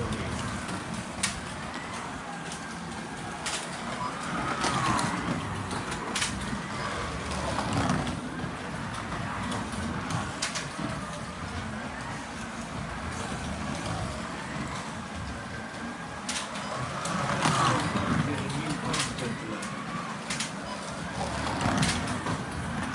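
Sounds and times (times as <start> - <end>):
rumble of running cars: 0.0 - 22.9
slot car motors whining: 0.0 - 22.9.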